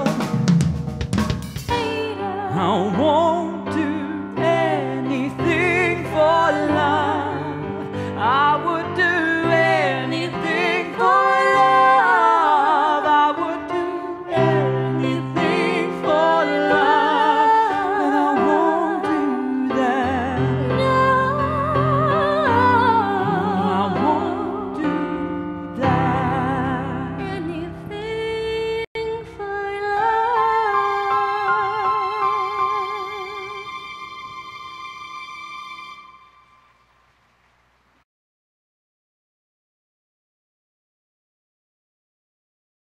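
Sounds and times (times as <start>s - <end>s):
person singing with vibrato: 0.0s - 0.6s, 1.7s - 36.5s.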